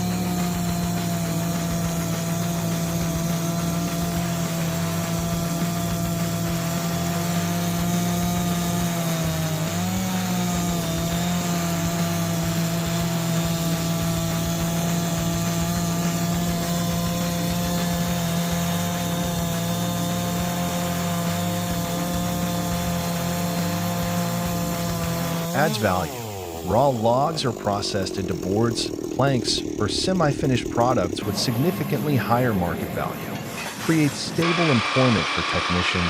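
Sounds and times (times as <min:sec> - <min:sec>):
circular saw whining: 0:00.0 - 0:36.0.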